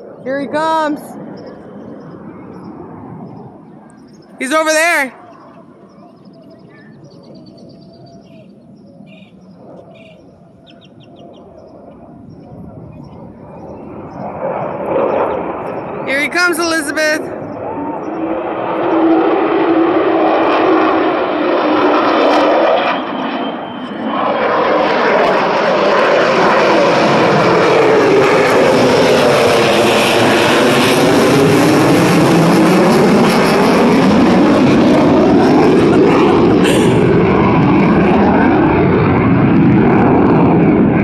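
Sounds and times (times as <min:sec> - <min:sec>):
jet flying low overhead: 0:00.0 - 0:41.0.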